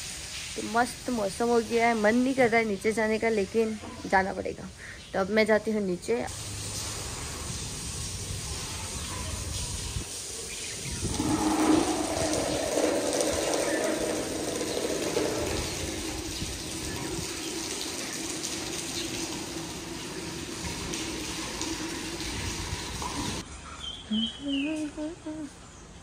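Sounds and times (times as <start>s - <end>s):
water running: 0.0s - 4.8s, 5.4s - 23.4s.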